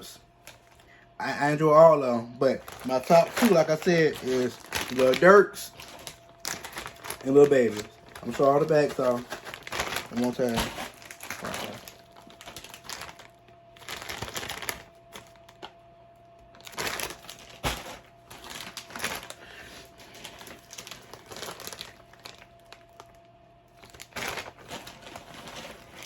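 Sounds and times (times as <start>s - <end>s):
chip bags crinkling: 1.6s - 15.8s, 16.4s - 26.0s.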